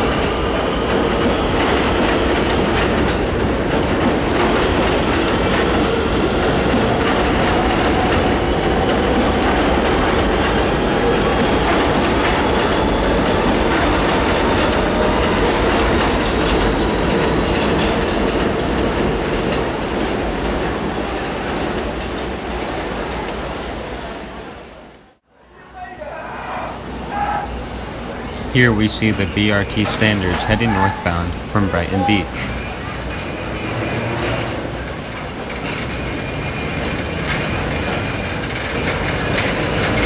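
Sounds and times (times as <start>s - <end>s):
subway train wheels on rails: 0.0s - 40.0s.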